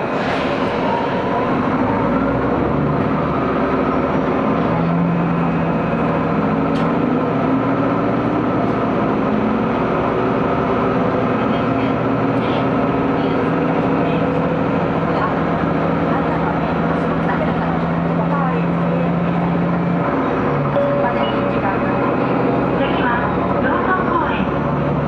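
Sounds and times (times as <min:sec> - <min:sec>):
railcar engine drone: 0:00.0 - 0:25.0.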